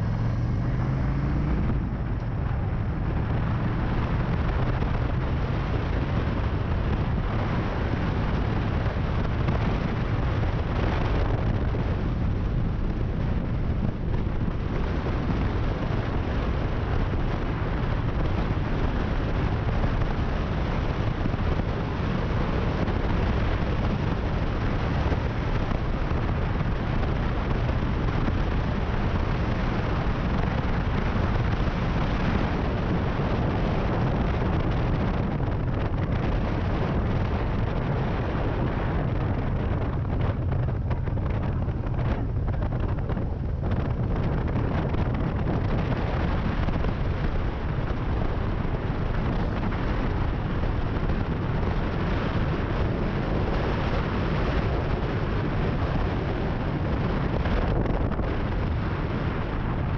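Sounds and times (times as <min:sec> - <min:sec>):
motorcycle engine and tyres: 0:00.0 - 0:59.9
wind buffeting microphone: 0:00.0 - 0:59.9.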